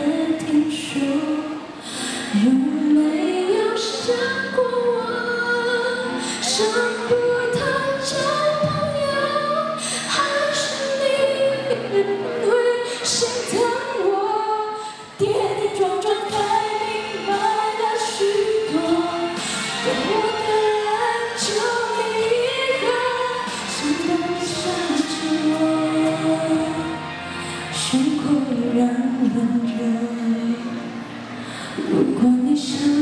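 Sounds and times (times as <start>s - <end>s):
woman singing into a microphone: 0.0s - 33.0s.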